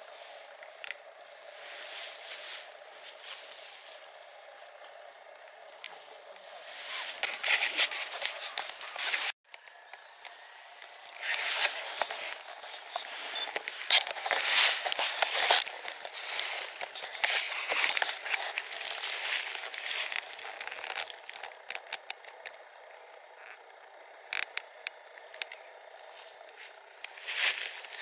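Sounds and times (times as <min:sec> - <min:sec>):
dry leaves rustling and crackling: 0:00.1 - 0:09.4, 0:10.4 - 0:22.6, 0:26.0 - 0:28.0.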